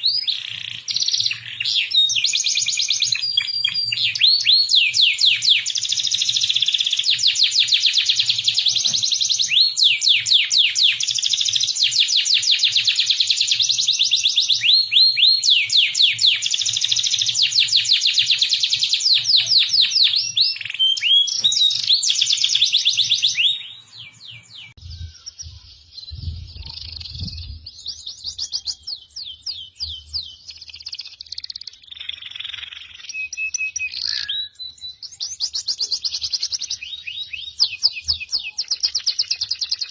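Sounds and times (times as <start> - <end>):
bird twittering: 0.0 - 39.9
songbird singing fast runs: 0.0 - 39.9.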